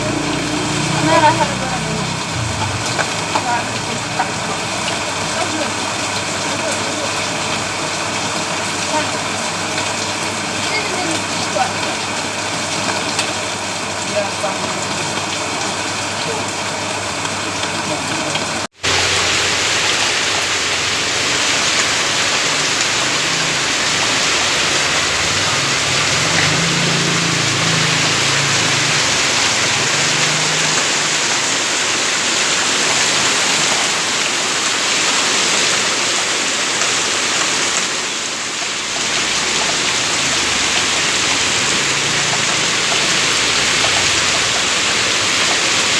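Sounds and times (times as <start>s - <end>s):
rain falling on a road: 0.0s - 45.9s.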